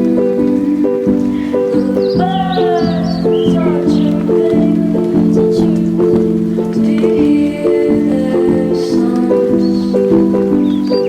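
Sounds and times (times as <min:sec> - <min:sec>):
falling melodic line: 0:00.0 - 0:11.0
sustained chords: 0:00.0 - 0:11.0.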